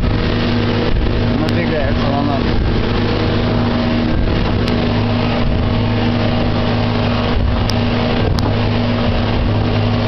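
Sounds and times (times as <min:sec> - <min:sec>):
motor boat engine running: 0:00.0 - 0:10.0
water noise: 0:00.0 - 0:10.0
wind noise: 0:00.0 - 0:10.0.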